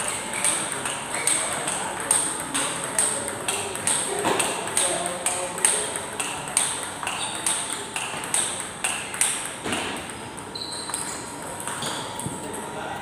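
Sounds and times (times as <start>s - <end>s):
table tennis ball clicking: 0.0s - 12.6s.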